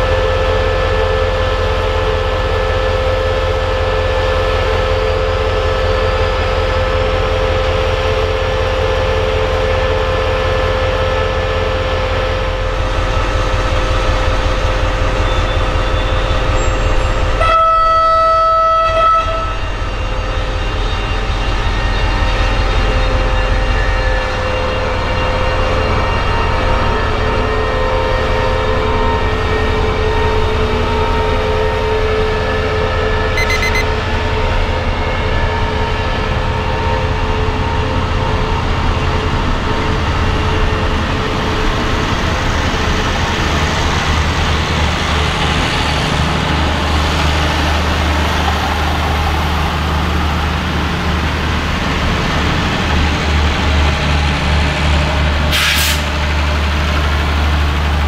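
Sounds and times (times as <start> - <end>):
train wheels rumbling on rails: 0.0 - 33.3, 34.0 - 58.0
locomotive engine drone: 0.0 - 58.0.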